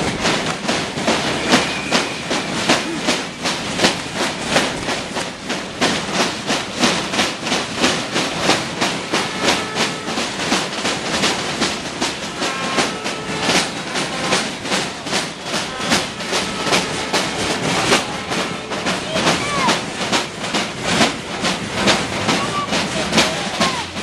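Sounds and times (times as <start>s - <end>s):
crowd banging and clattering: 0.0s - 24.0s.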